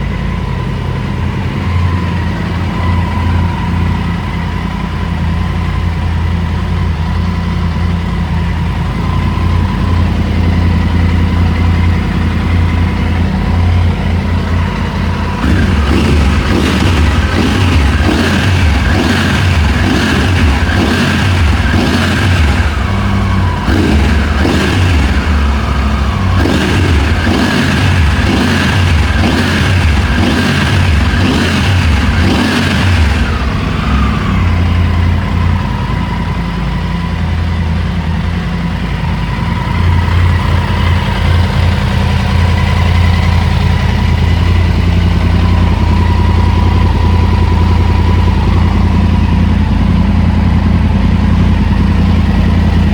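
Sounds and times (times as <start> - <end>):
motorcycle engine revving and idling: 0.0 - 52.9.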